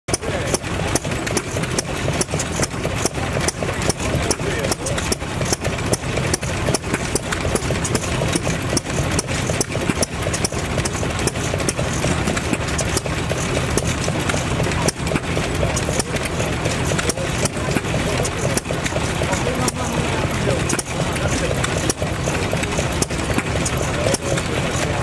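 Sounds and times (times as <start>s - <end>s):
stationary engine knocking: 0.0s - 25.0s.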